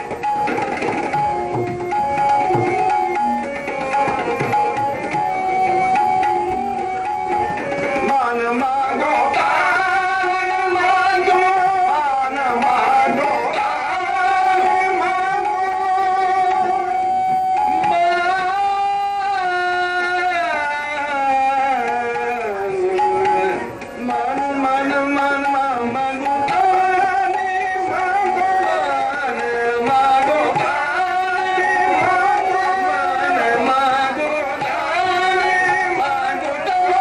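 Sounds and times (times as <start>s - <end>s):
harmonium: 0.0s - 37.0s
tabla drumming: 0.0s - 37.0s
person singing ornamented lines: 1.5s - 37.0s.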